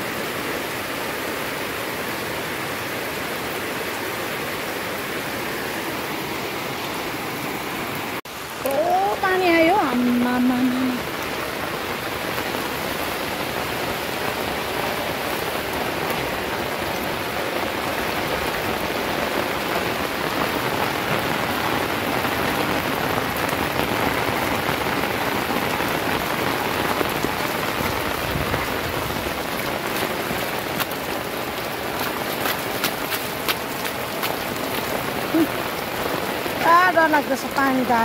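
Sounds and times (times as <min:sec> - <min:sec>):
heavy rain on asphalt: 0:00.0 - 0:38.0.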